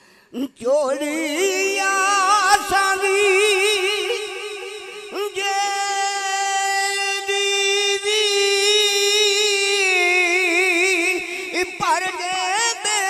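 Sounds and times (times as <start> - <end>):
man singing unaccompanied: 0.3 - 13.0.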